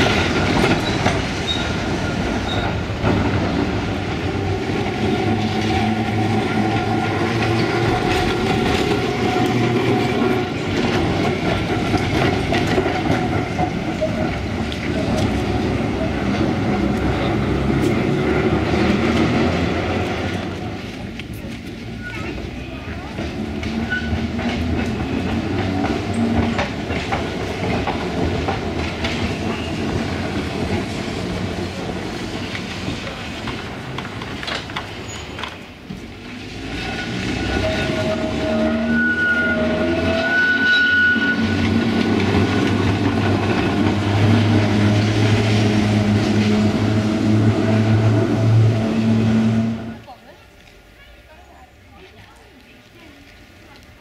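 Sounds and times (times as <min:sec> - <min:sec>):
tram knocks: 0:00.0 - 0:40.3, 0:40.9 - 0:50.0
tram running on rails: 0:00.0 - 0:54.0.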